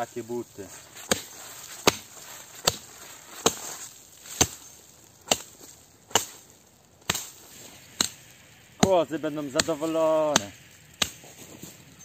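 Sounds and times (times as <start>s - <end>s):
chopping through branches: 0.8s - 11.7s.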